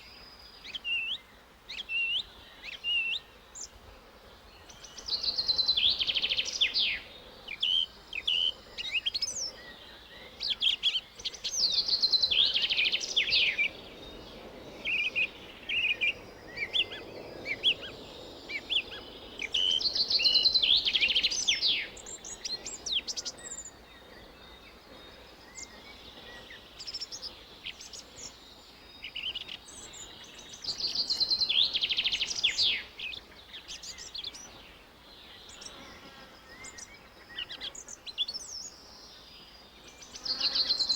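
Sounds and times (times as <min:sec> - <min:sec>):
birds singing and chirping: 0:04.6 - 0:40.9.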